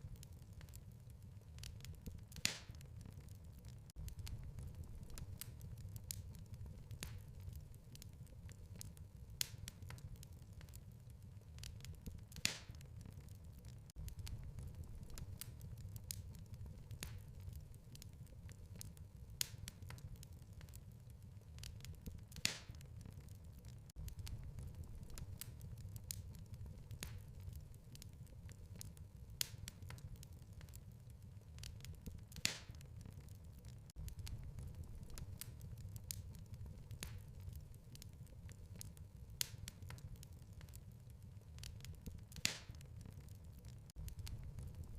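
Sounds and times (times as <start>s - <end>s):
fire popping: 0.0s - 44.9s
wood fire crackling: 0.0s - 44.9s.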